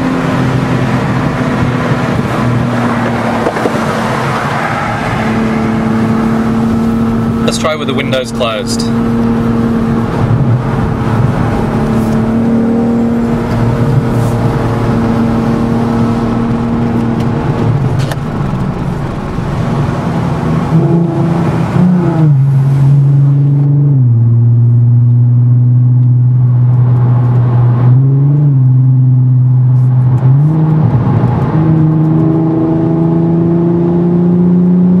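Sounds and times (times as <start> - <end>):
car engine droning in cabin: 0.0 - 35.0.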